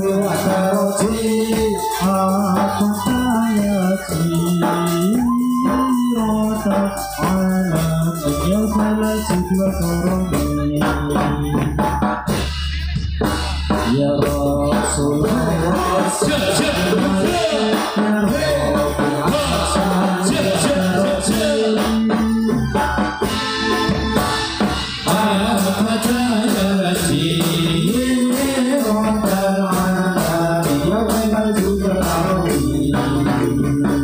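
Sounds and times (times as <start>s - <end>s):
drums: 0.0s - 34.0s
jingling percussion: 0.0s - 34.0s
singing: 0.0s - 34.0s.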